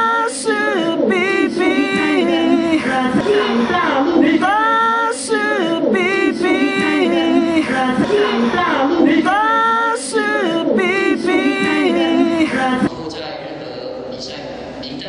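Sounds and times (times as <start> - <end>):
person singing unaccompanied: 0.0 - 12.9.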